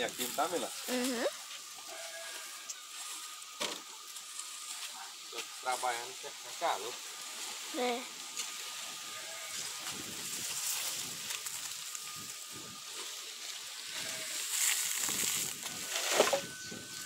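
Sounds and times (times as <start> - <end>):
garden rake scraping dry dirt: 0.0 - 17.0
rake dragging cut weeds: 0.0 - 17.0.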